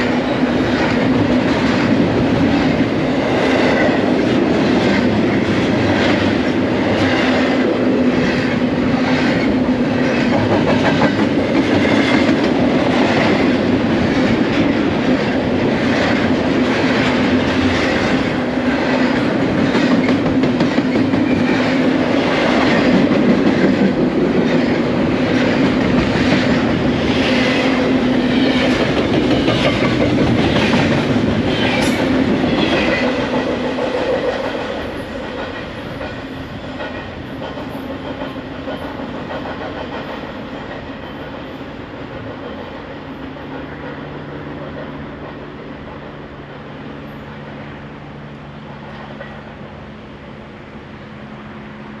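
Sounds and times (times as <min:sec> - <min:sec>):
steel wheels clicking over rail joints: 0:00.0 - 0:47.6
freight train rolling past: 0:00.0 - 0:52.0.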